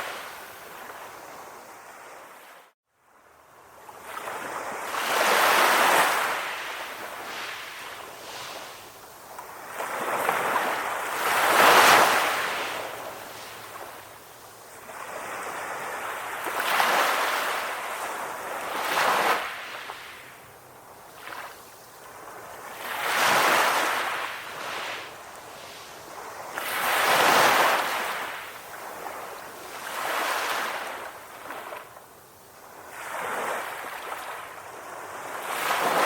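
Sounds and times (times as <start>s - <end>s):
ocean waves washing onto shore: 0.0s - 36.0s.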